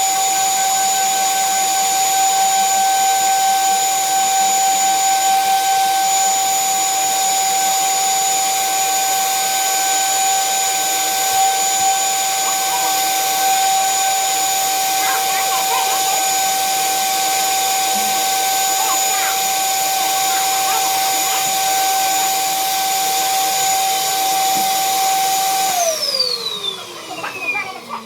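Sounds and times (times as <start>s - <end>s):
electric drill cutting metal: 0.0s - 28.0s.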